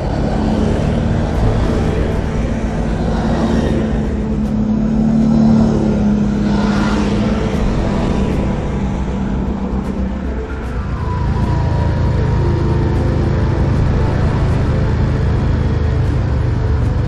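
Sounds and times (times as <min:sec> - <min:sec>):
quad bike engine drone: 0:00.0 - 0:17.0.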